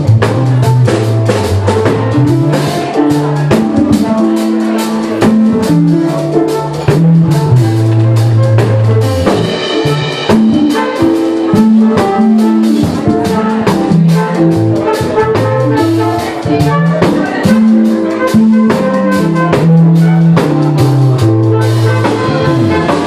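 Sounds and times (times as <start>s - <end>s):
bass line: 0.0s - 23.0s
drum kit beat: 0.0s - 23.0s.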